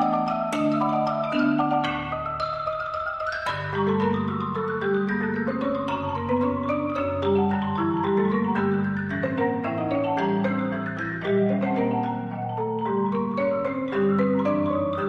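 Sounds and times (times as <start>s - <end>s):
marimba music: 0.0s - 15.0s.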